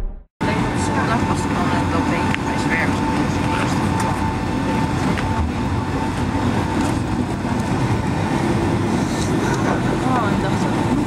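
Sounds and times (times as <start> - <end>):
jet engines running: 0.4 - 11.0.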